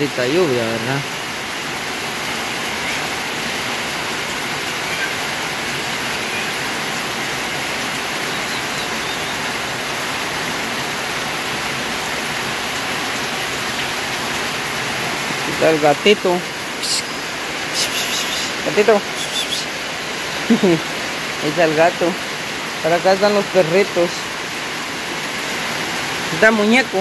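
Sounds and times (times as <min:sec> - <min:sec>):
heavy rain on metal roof: 0:00.0 - 0:27.0.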